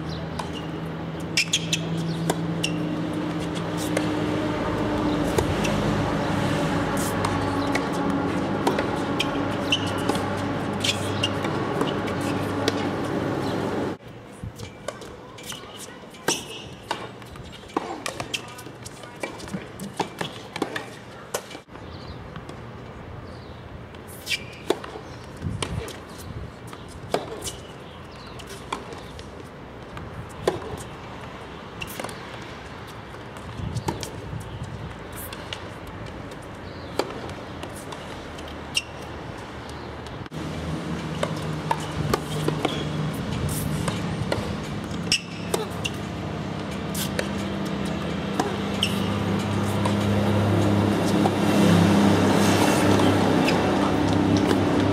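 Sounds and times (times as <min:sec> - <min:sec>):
tennis balls struck and bouncing: 0:00.0 - 0:22.7, 0:23.9 - 0:54.9.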